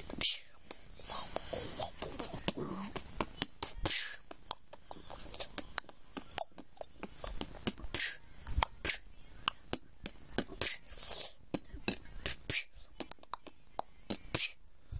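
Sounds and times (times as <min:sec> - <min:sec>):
boy beatboxing: 0:00.0 - 0:14.7.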